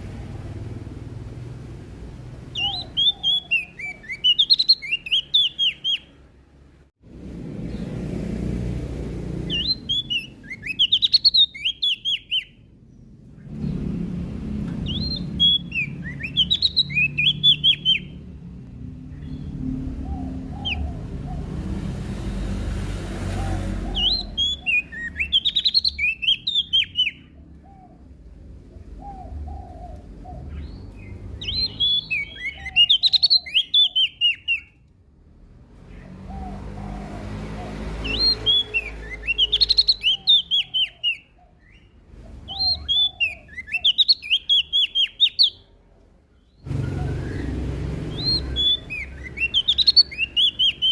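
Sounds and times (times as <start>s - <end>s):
warbler singing high chirps: 2.5s - 6.2s, 9.4s - 18.4s, 19.0s - 34.8s, 35.8s - 45.7s, 46.4s - 50.9s.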